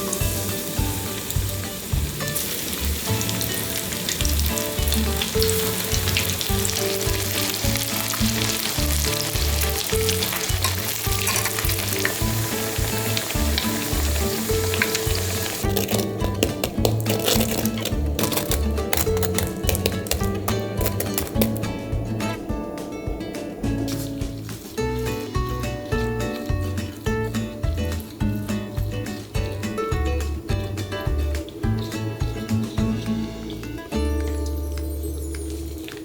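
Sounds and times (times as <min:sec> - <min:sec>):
background music: 0:00.0 - 0:36.0
food sizzling in frying: 0:00.0 - 0:36.0.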